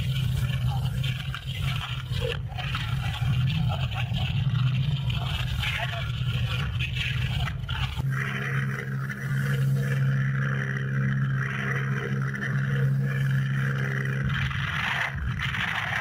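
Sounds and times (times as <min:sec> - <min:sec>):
piston aircraft engines droning: 0:00.0 - 0:16.0.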